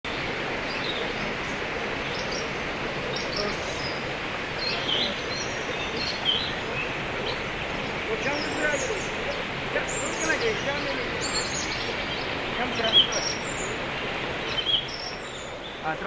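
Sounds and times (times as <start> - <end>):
birds chirping: 0.0 - 16.0
outdoor noise: 0.0 - 16.0.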